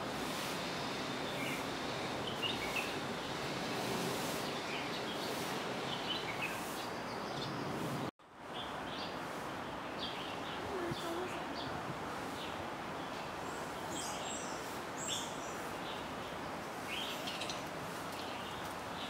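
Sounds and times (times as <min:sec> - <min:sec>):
outdoor background noise: 0:00.0 - 0:19.0
small birds chirping: 0:00.8 - 0:03.4, 0:04.4 - 0:07.8, 0:09.8 - 0:19.0.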